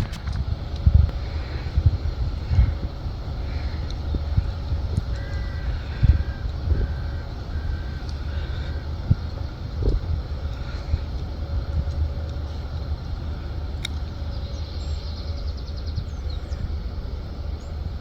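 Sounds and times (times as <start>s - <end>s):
faint steady hum: 0.0s - 18.0s
jet engines rumbling: 0.0s - 18.0s.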